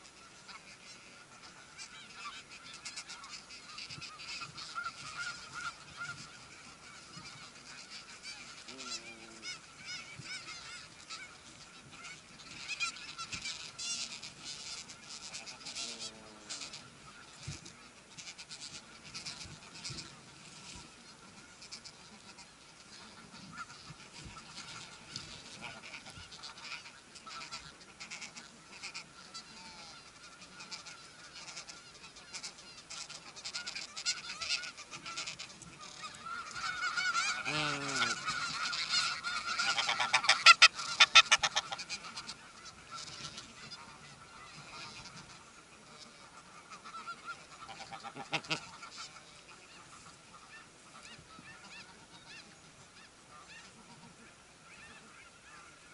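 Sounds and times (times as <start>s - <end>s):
geese honking: 0.0s - 55.9s.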